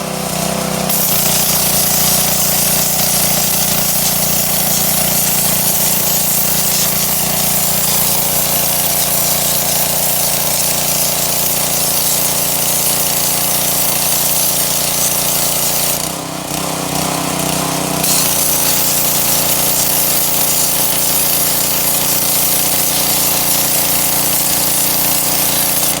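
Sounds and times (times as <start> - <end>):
pressure washer motor humming: 0.0 - 26.0
water spray hissing on brick: 0.0 - 26.0.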